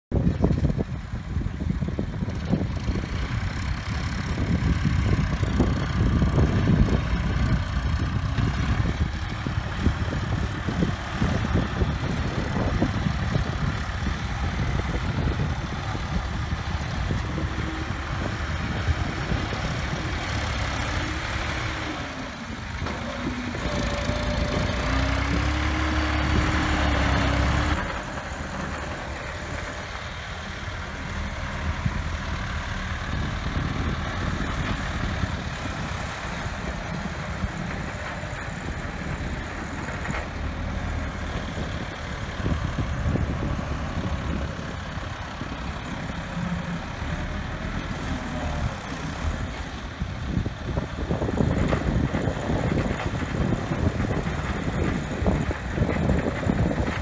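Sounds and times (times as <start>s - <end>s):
diesel tractor engines running: 0.1s - 57.0s.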